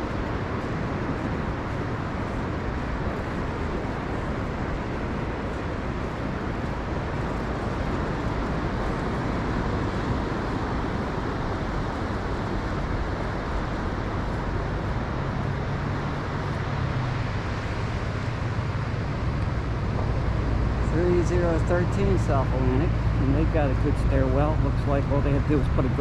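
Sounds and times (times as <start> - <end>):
outdoor rushing noise: 0.0 - 26.0.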